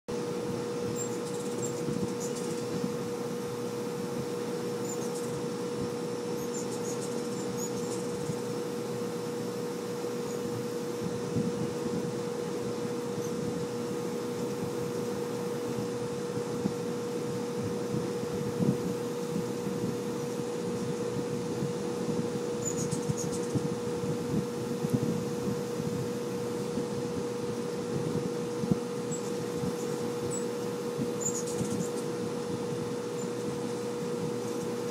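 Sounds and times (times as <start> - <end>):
constant low hum: 0.1 - 34.9
hummingbird wings whirring: 0.1 - 34.9.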